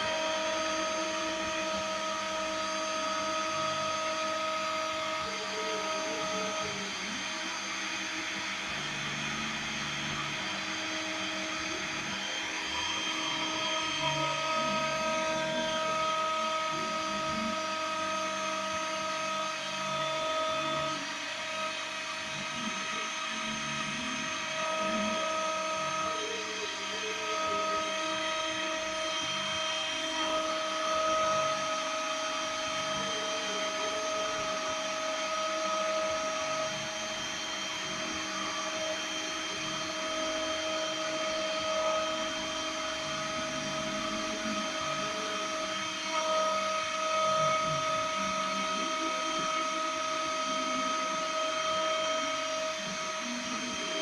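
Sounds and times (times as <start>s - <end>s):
milling spindle whining: 0.0s - 54.0s
stepper motor tones: 0.0s - 54.0s.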